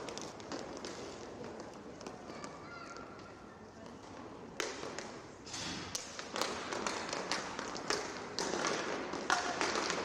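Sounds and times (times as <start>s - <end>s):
hockey sticks and puck clacking: 0.0s - 10.0s
skate wheels rolling on tiles: 0.0s - 10.0s.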